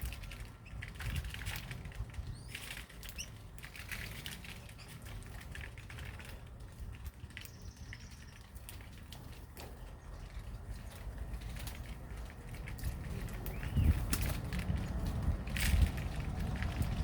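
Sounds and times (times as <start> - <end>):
birds fluttering: 0.0 - 17.0.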